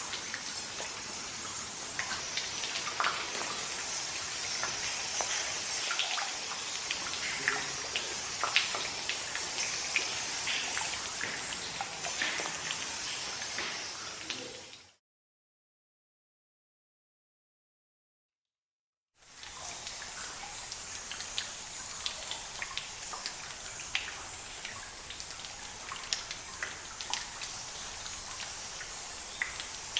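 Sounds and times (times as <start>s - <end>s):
trickling water hiss: 0.0s - 15.0s, 19.2s - 29.9s
water dripping in a cave: 0.0s - 15.0s, 19.2s - 29.9s.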